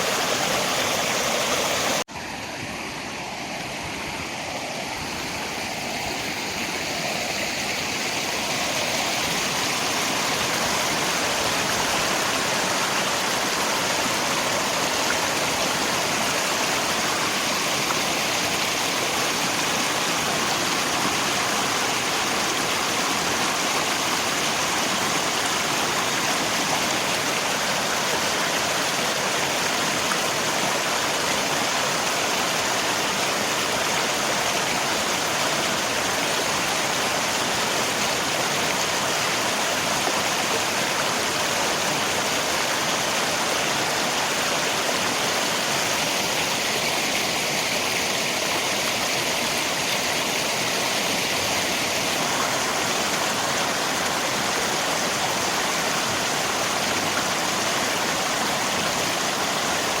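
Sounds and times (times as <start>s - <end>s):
rain: 0.0s - 60.0s
river water rushing: 0.0s - 60.0s.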